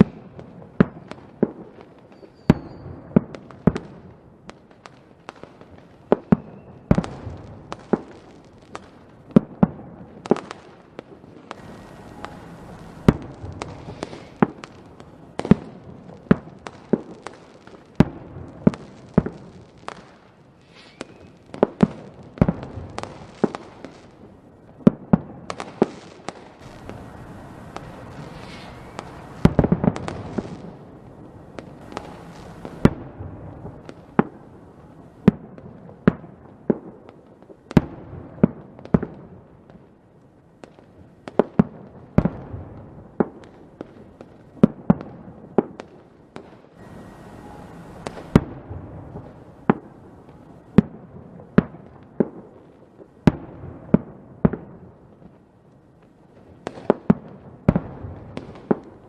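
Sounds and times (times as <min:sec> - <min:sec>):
firework bangs: 0:00.0 - 0:39.8, 0:40.6 - 0:55.0, 0:56.4 - 0:59.0
firework crackle and hiss: 0:00.0 - 0:59.0.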